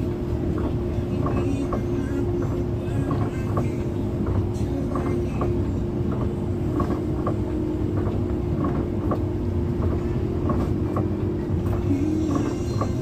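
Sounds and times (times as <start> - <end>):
bus engine and road rumble: 0.0 - 13.0
rattling clicks: 0.5 - 13.0.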